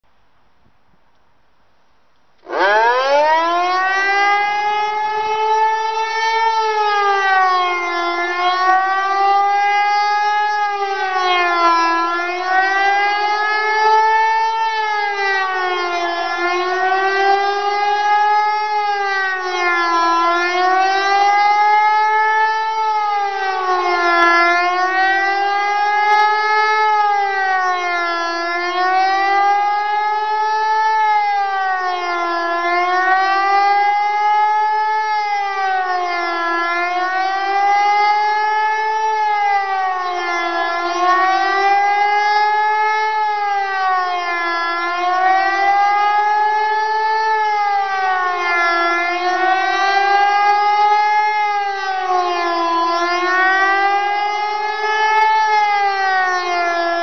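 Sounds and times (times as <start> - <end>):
siren wailing: 2.4 - 57.0.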